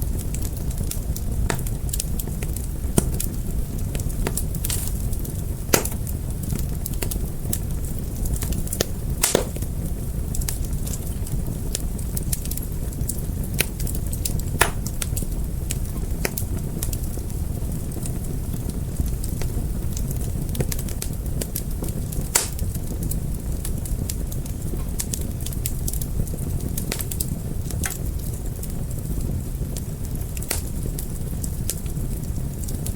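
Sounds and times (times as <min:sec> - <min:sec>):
fire crackles and pops: 0:00.0 - 0:32.9
low rumble of flames: 0:00.0 - 0:32.9.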